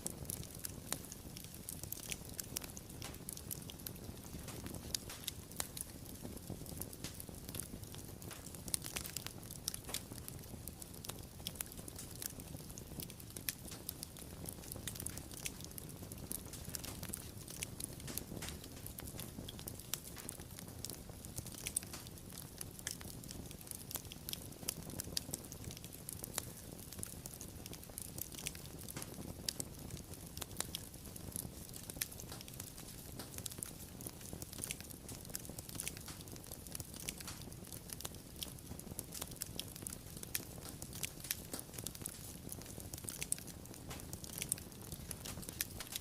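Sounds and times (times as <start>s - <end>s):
low rumble of flames: 0.0s - 46.0s
wood fire crackling and popping: 0.0s - 46.0s.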